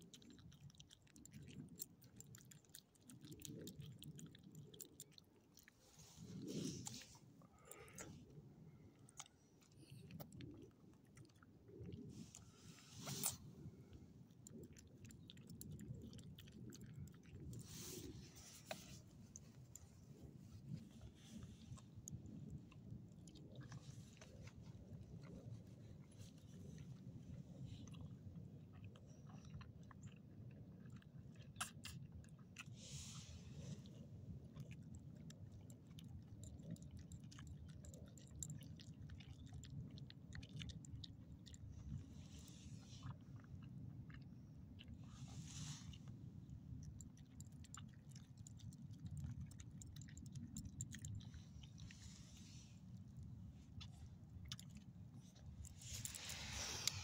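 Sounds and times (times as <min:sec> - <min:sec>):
low steady rumble: 0:00.0 - 0:57.0
small dog chewing and licking: 0:00.0 - 0:57.0.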